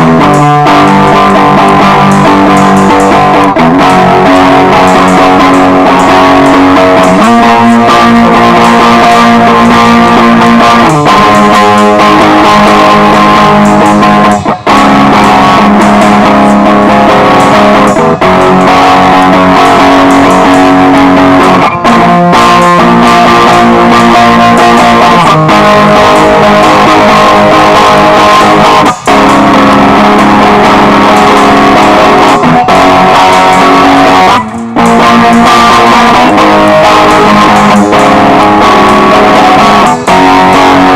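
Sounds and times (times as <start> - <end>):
bass: 0.0 - 40.9
instrumental band music: 0.0 - 40.9
strummed electric guitar: 0.0 - 40.9.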